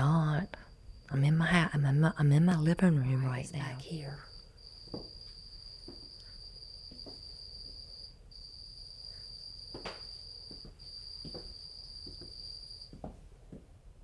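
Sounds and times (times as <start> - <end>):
cricket chirping trill: 0.0 - 13.0.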